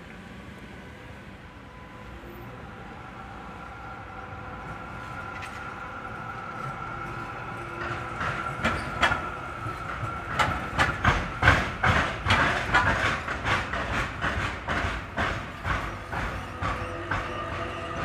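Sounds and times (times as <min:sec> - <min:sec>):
tram wheels clattering over crossing: 0:03.2 - 0:18.0.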